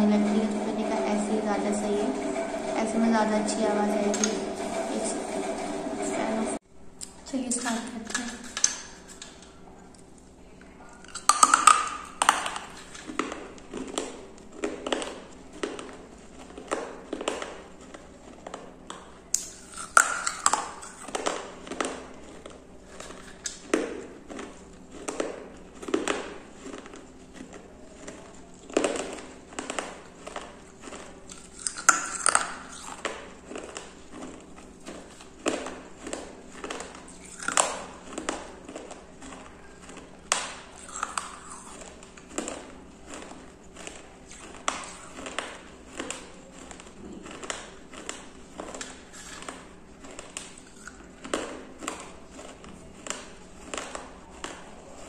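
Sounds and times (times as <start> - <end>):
chewing and crunching clay: 7.0 - 55.0.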